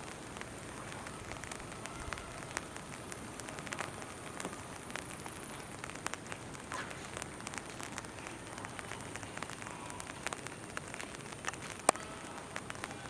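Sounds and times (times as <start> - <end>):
raindrops ticking on surfaces: 0.0 - 13.0
steady rain falling: 0.0 - 13.0.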